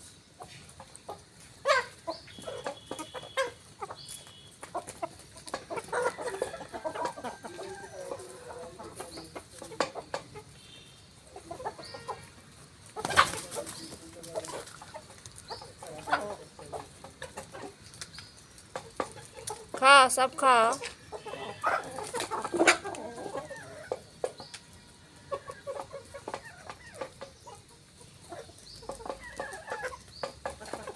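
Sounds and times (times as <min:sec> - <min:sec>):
chickens clucking: 0:00.0 - 0:30.9.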